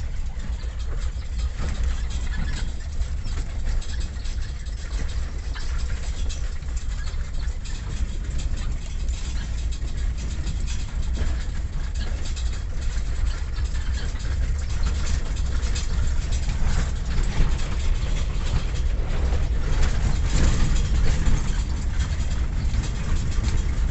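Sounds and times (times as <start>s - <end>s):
rough crackly noise: 0.0s - 23.9s
vehicle deep rumble: 0.0s - 23.9s.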